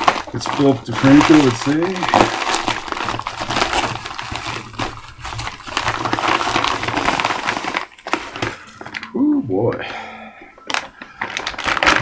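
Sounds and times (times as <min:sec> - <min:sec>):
packaging crinkling and tearing: 0:00.0 - 0:09.8, 0:10.6 - 0:12.0.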